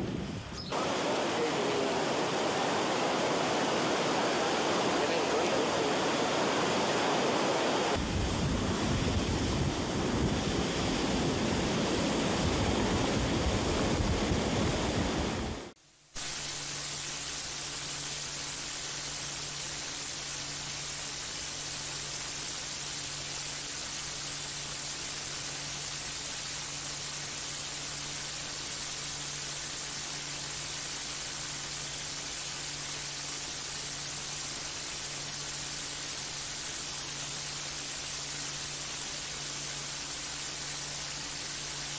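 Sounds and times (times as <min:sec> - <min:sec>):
steady hiss: 0:00.0 - 0:41.9
water rushing through spillway: 0:00.7 - 0:41.9.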